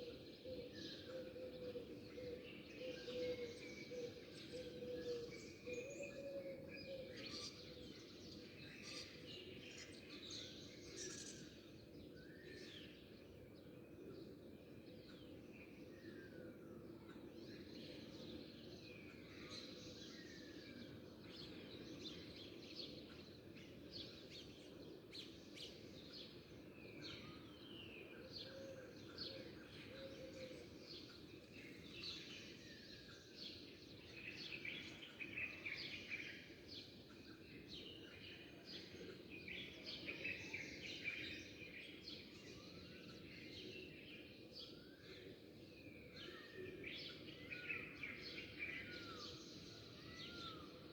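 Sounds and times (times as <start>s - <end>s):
small birds chirping and twittering: 0.0s - 50.9s.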